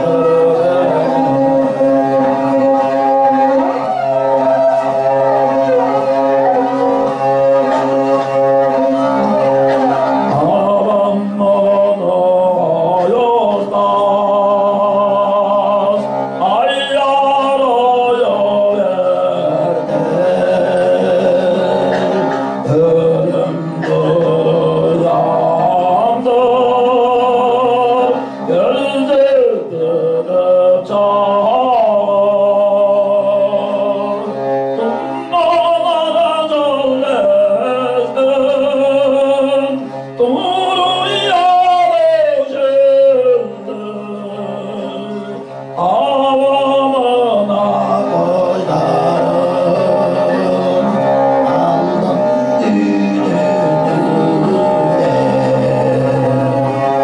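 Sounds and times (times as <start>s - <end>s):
bowed fiddle: 0.0s - 57.0s
man throat singing: 5.6s - 57.0s.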